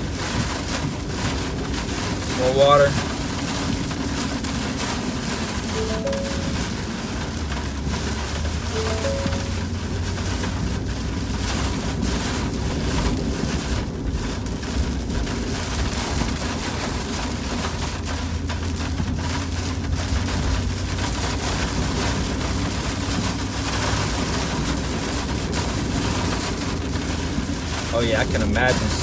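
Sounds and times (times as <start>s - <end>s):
rain on car: 0.0s - 29.0s
road and engine rumble: 0.0s - 29.0s.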